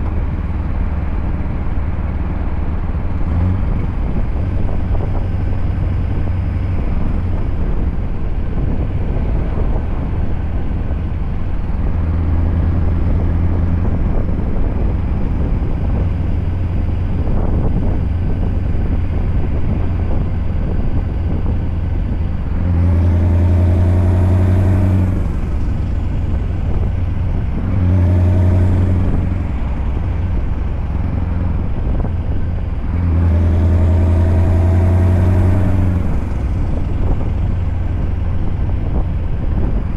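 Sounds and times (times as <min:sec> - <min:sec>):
diesel truck engine drone: 0:00.0 - 0:39.9.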